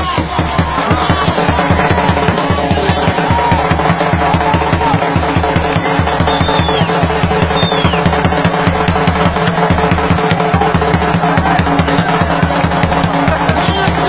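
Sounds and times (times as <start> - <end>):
music with fast drum beat: 0.0 - 14.0.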